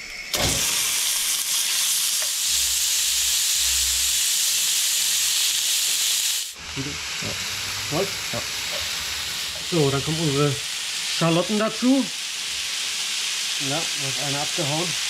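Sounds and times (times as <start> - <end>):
meat sizzling: 0.0 - 15.0.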